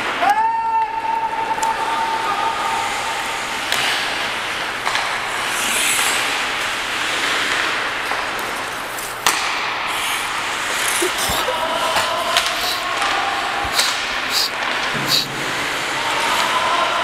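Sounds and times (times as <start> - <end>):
skates scraping on ice: 2.8 - 16.9.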